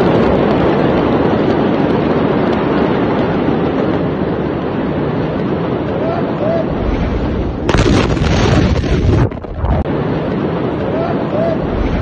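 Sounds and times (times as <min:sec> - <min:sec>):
fire roaring: 0:00.0 - 0:12.0.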